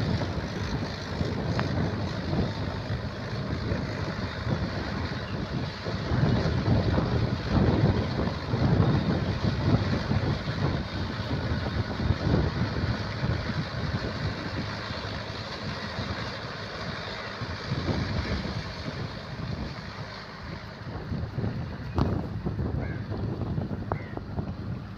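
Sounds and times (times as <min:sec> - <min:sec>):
tractor engine running: 0:00.0 - 0:24.9
wind buffeting microphone: 0:00.0 - 0:24.9.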